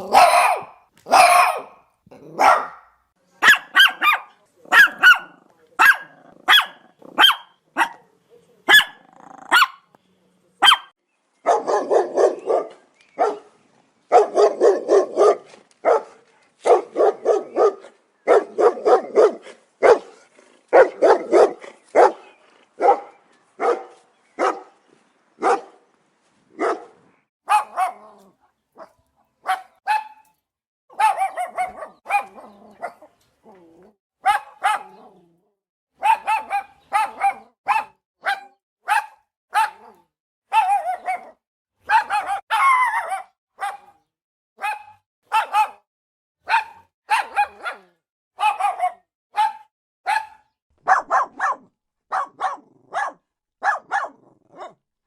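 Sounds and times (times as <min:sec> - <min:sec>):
dog barking: 0:00.0 - 0:08.0, 0:08.7 - 0:09.9, 0:10.6 - 0:13.5, 0:14.1 - 0:24.8, 0:25.4 - 0:25.8, 0:26.6 - 0:30.2, 0:30.9 - 0:33.2, 0:34.2 - 0:35.2, 0:36.0 - 0:54.8.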